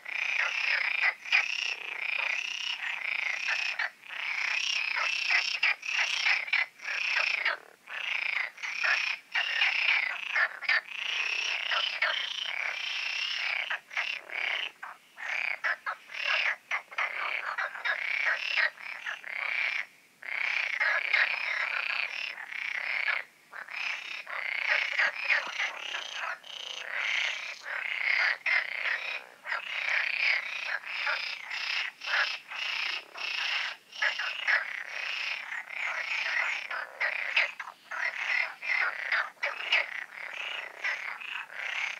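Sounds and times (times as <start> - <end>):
frogs croaking in chorus: 0.0 - 41.9.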